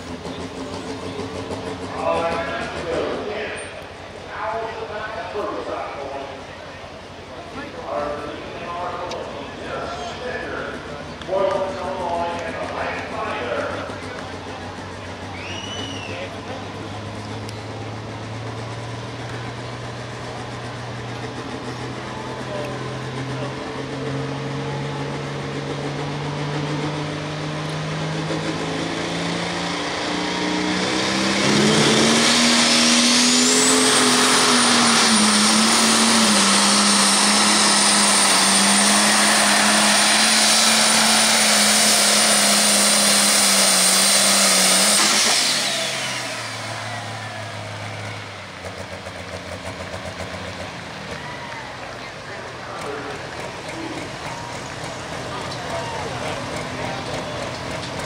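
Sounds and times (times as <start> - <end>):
diesel tractor engine revving: 0.0 - 58.0
high turbo whine: 0.0 - 58.0.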